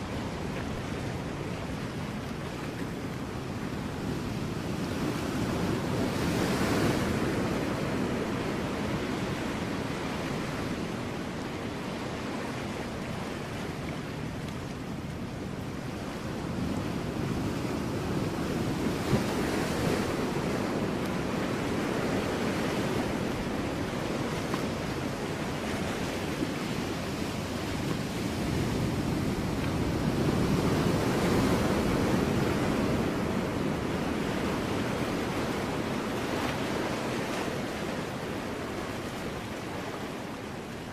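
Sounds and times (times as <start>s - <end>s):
ocean waves breaking on rocks: 0.0s - 40.9s.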